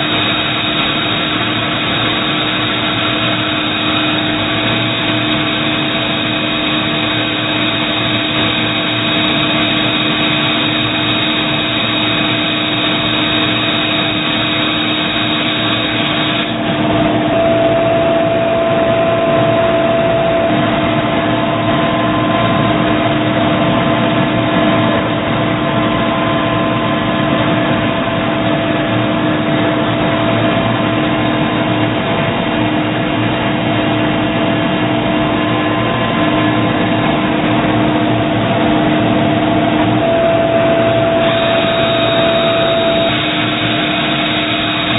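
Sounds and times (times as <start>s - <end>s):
lathe machine humming: 0.0s - 44.9s.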